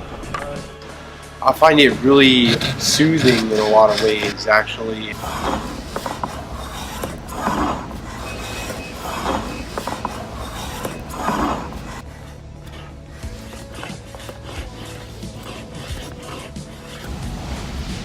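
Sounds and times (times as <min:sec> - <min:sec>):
hand tool strokes on wood: 0:01.9 - 0:04.4, 0:05.1 - 0:17.2.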